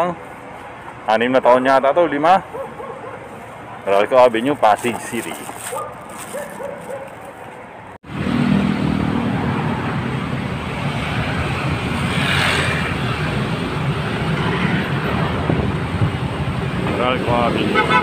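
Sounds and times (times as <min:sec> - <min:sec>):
traffic passing close by: 0:00.0 - 0:18.0.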